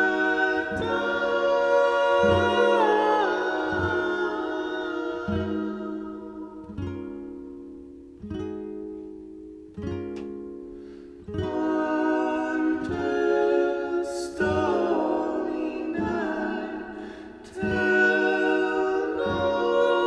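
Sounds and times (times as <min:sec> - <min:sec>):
strummed acoustic guitar chords: 0:00.0 - 0:20.0.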